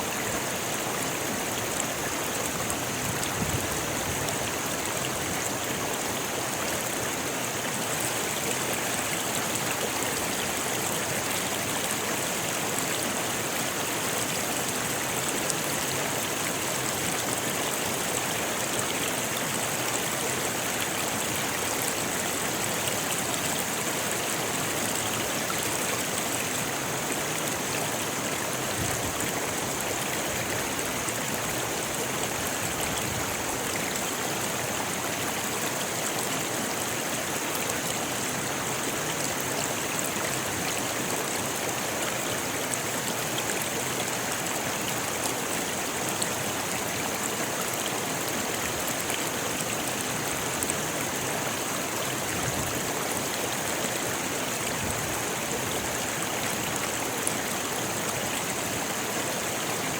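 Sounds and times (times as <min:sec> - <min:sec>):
river rushing over stones: 0:00.0 - 0:59.9.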